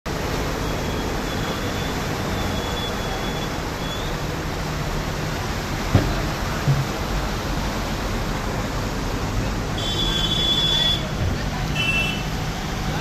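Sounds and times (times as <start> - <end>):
cars ploughing through water: 0.1 - 13.0
floodwater rushing: 0.1 - 13.0.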